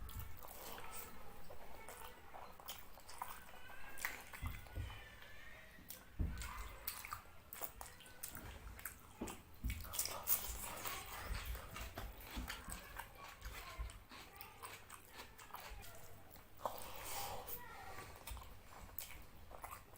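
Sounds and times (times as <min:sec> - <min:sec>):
chewing and lip smacks: 0:00.0 - 0:04.7, 0:05.9 - 0:19.9.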